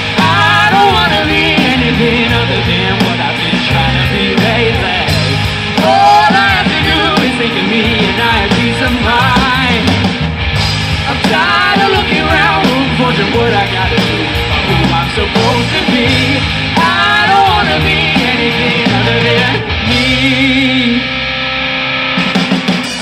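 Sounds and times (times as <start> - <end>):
person singing: 0.0 - 10.0, 11.0 - 21.2
live rock band playing: 0.0 - 23.0.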